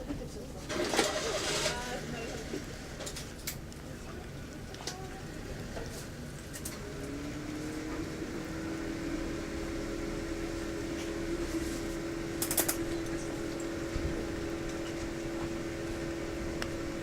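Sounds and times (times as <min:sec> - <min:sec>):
fan motor humming: 0:00.7 - 0:17.0.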